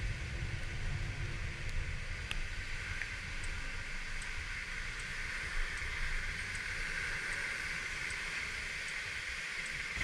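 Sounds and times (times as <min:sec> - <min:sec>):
wind and road noise: 0:00.0 - 0:10.0
faint repeating tick: 0:01.6 - 0:10.0.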